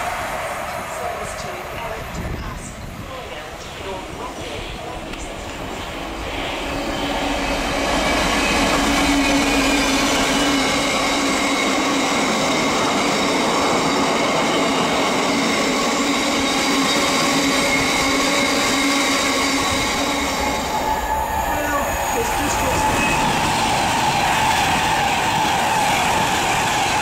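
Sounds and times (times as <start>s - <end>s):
diesel locomotive engine: 0.0s - 27.0s.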